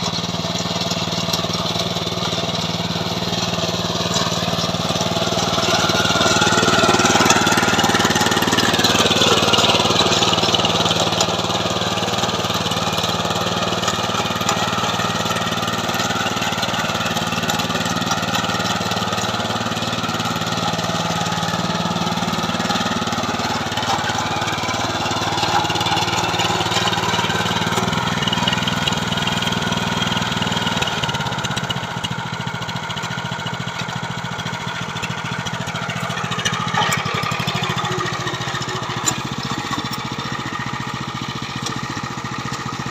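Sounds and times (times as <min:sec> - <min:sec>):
small tiller engine running: 0:00.0 - 0:42.9.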